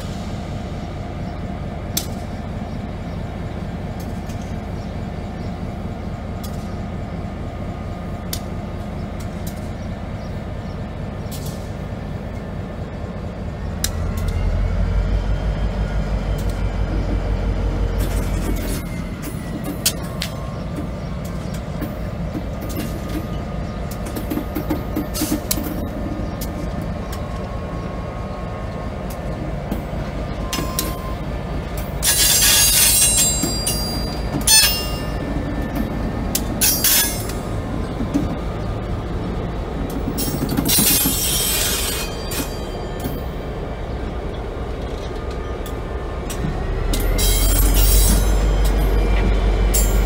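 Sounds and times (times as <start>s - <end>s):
diesel locomotive engine running: 0.0s - 50.0s.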